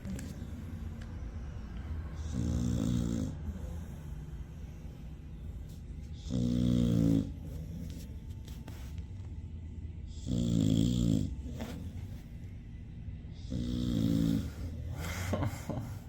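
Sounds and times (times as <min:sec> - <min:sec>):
dog snoring: 0:00.0 - 0:08.2, 0:10.0 - 0:12.4, 0:13.3 - 0:16.0.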